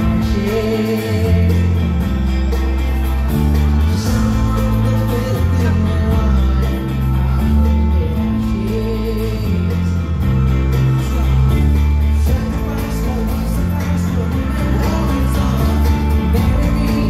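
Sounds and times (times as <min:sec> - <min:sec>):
live rock band playing: 0:00.0 - 0:17.0
person singing: 0:00.0 - 0:17.0.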